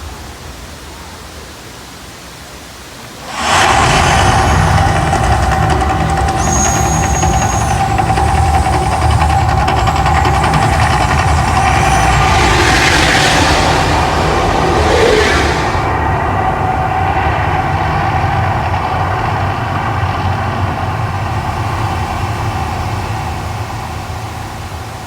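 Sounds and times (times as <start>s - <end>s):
deep rumble over loudspeakers: 3.2s - 25.0s
steady hum: 3.2s - 25.0s.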